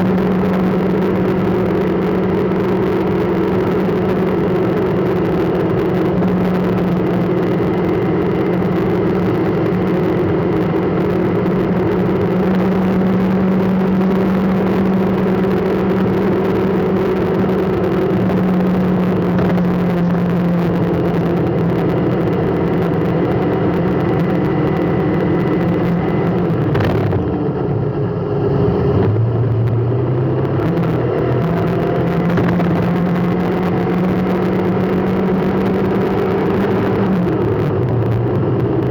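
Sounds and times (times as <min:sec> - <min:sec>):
vehicle engine humming: 0:00.0 - 0:38.9.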